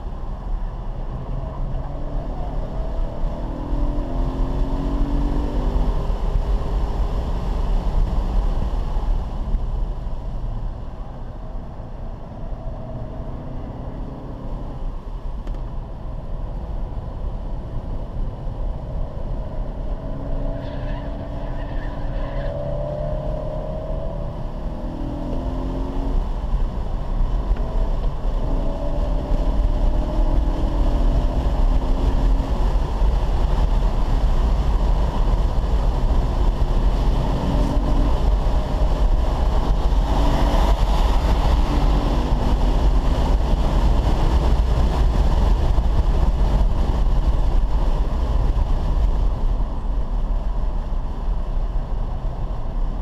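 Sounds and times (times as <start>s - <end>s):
car engine under load: 0.0s - 53.0s
road and wind noise: 0.0s - 53.0s.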